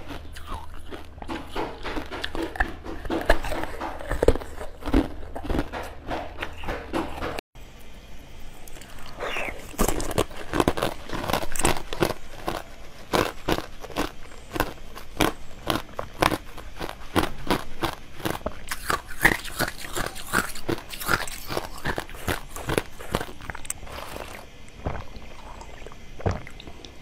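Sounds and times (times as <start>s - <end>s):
crunching and chewing candy: 0.0s - 7.4s, 8.5s - 26.8s.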